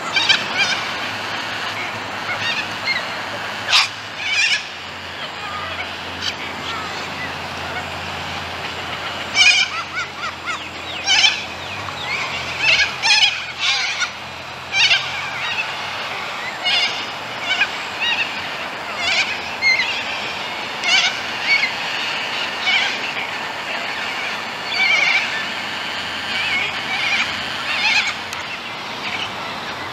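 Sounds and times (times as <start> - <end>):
waterbirds calling: 0.0 - 29.9.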